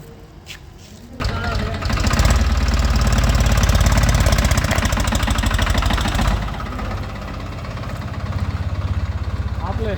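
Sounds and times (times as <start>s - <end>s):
diesel tractor engine idling: 1.2s - 9.9s.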